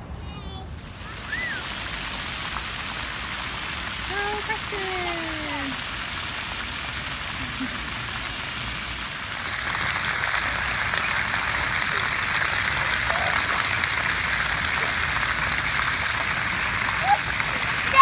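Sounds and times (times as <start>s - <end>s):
fountain jets splattering on pavement: 0.8s - 18.0s.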